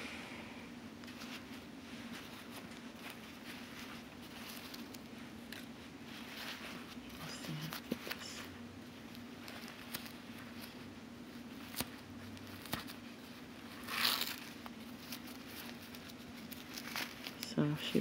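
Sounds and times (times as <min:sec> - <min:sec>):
paper wrapping rustling: 0:01.0 - 0:18.0.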